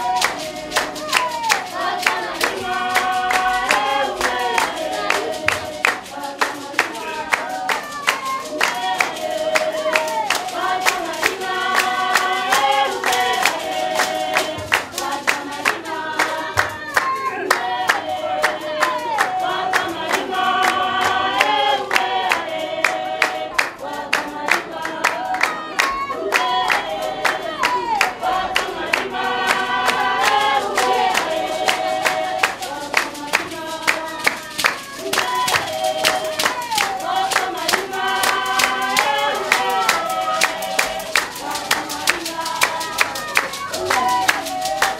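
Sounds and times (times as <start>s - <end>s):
sharp hand claps: 0.0s - 44.9s
women singing together: 0.0s - 44.9s.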